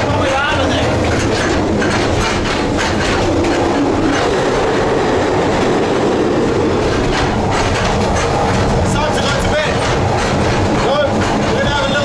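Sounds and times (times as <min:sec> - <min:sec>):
train rumble inside carriage: 0:00.0 - 0:12.0
wheels clattering over rails: 0:00.0 - 0:12.0.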